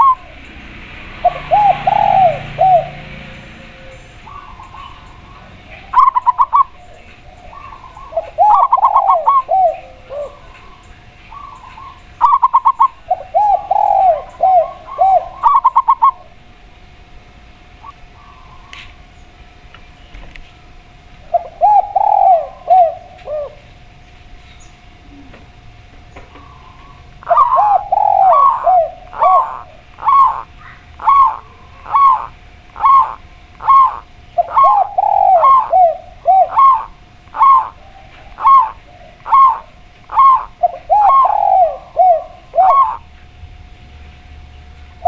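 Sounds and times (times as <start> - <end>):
lower rolling coos: 0.0 - 18.6, 24.8 - 45.0
doves cooing: 0.0 - 45.0.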